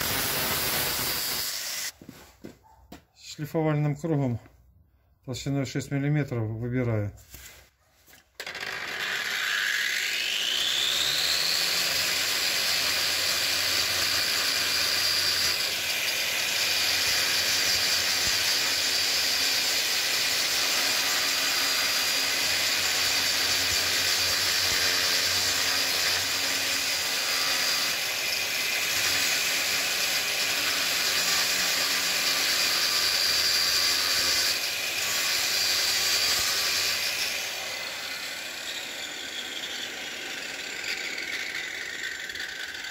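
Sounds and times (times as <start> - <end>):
angle grinder grinding steel: 0.0 - 2.0, 8.4 - 42.9.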